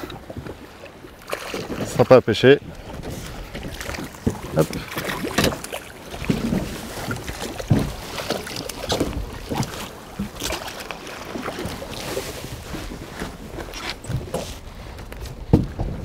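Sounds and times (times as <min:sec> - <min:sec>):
sea noise: 0:00.0 - 0:16.0.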